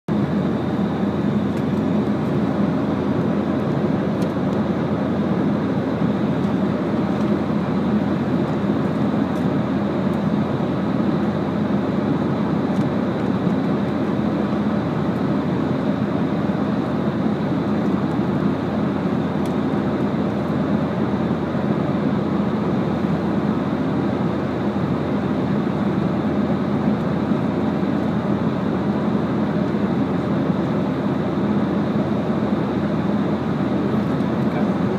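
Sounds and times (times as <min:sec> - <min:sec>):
airliner cabin drone: 0:00.1 - 0:34.9.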